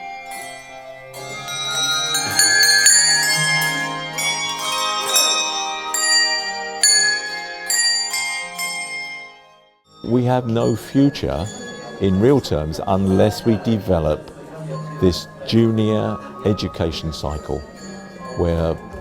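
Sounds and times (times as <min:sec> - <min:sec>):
handbell ensemble playing: 0:00.0 - 0:19.0.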